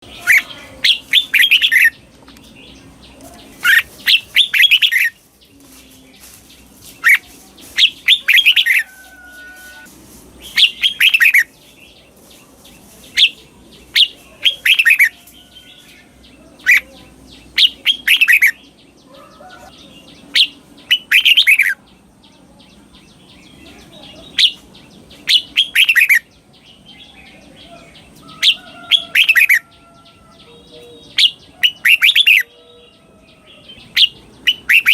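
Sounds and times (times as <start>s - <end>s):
bulbul singing: 0.0s - 34.9s.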